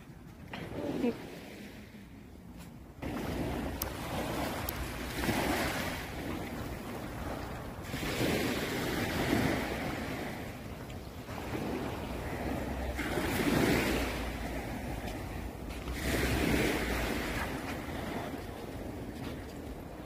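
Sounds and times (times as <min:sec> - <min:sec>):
small waves washing on shore: 0:00.0 - 0:20.0
wind rumbling on microphone: 0:00.0 - 0:20.0.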